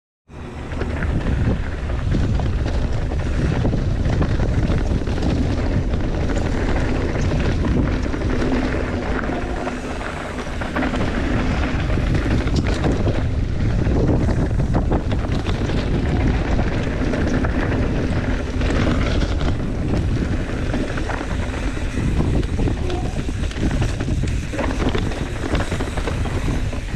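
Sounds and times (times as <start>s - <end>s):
wind buffeting microphone: 0.3s - 26.9s
bike clattering: 0.4s - 26.9s
tyres crunching over loose stones: 0.8s - 26.9s.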